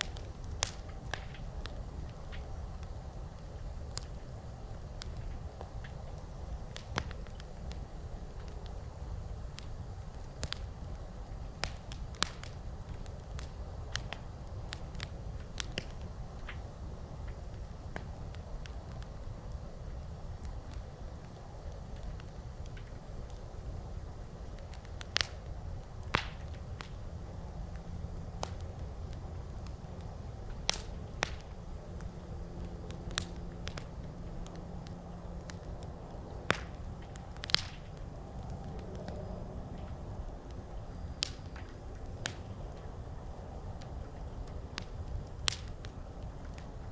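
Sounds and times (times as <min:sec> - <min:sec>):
campfire crackling: 0:00.0 - 0:46.9
steady low rumble: 0:00.0 - 0:46.9.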